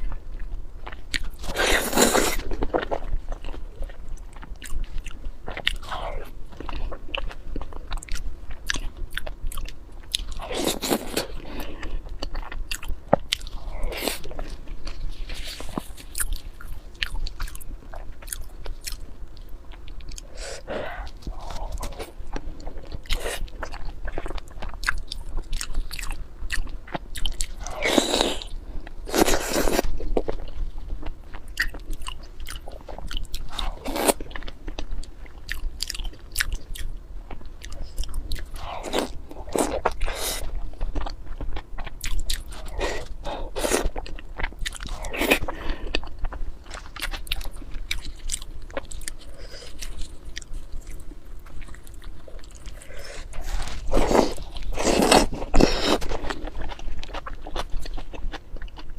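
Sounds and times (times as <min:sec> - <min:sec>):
person chewing crunchy food: 0:00.0 - 0:58.9.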